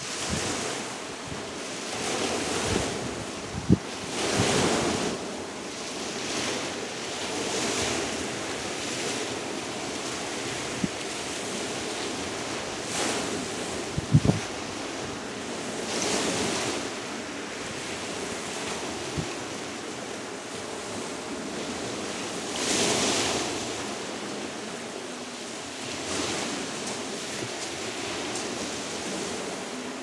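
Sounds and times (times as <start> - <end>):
waves washing up pebble beach: 0.0 - 30.0
wind buffeting microphone: 0.0 - 30.0.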